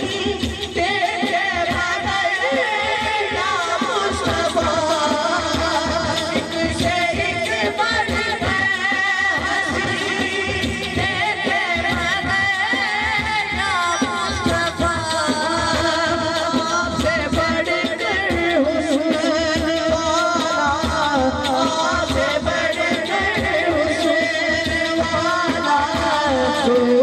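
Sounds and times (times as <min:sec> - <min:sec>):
man singing through a pa: 0:00.0 - 0:27.0
rhythmic accompaniment: 0:00.0 - 0:27.0.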